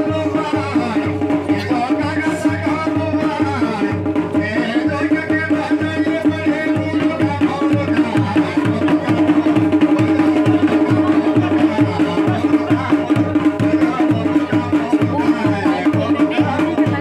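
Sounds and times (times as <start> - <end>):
drum beat: 0.0 - 17.0.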